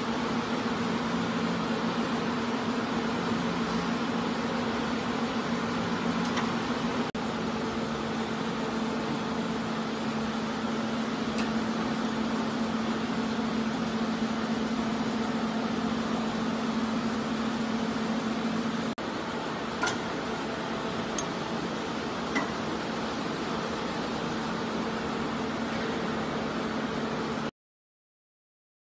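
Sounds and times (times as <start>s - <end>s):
machine electric hum: 0.0s - 27.5s.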